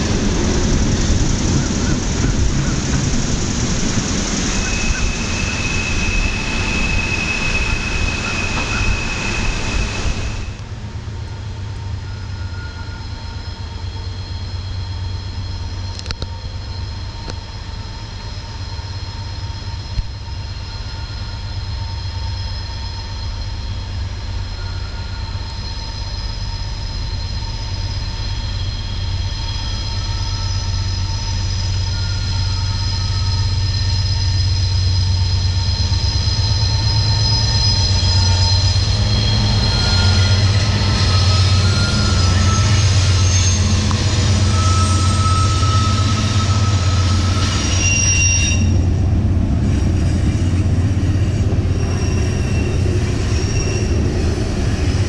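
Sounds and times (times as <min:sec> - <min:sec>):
freight train rumbling: 0:00.0 - 0:55.0
train wheel squeal: 0:00.0 - 0:55.0.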